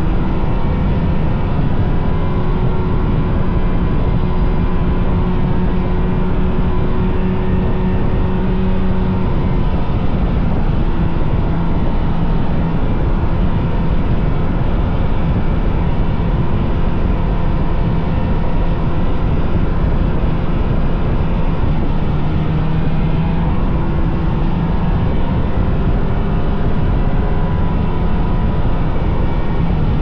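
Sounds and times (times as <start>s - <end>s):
snowmobile engine running: 0.0s - 30.0s.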